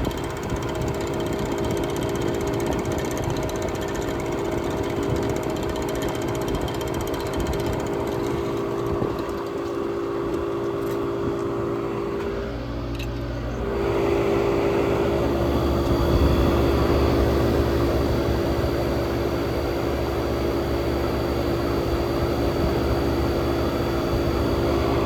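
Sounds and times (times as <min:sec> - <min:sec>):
air conditioner compressor hum: 0:00.0 - 0:25.0.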